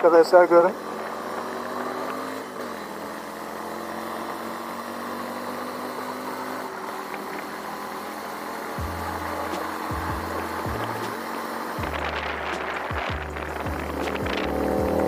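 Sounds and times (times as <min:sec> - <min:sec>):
motorcycle engine pulling uphill: 0:00.0 - 0:15.0
wind and road noise: 0:00.0 - 0:15.0.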